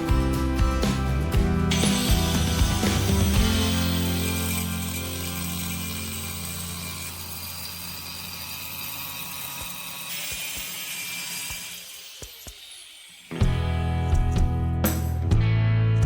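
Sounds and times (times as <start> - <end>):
power tool whirring: 0.7 - 14.3.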